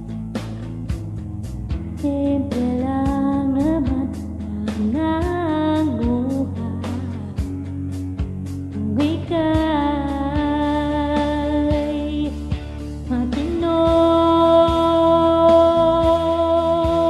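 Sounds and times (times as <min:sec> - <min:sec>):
backing track music: 0:00.0 - 0:17.0
woman singing: 0:02.0 - 0:07.5, 0:08.7 - 0:17.0.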